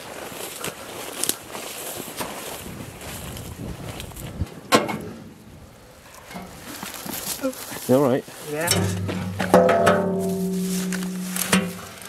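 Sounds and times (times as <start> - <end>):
footsteps through rough grass: 0.0 - 4.5, 6.0 - 12.0
undergrowth crackling: 0.0 - 4.5, 5.5 - 12.0.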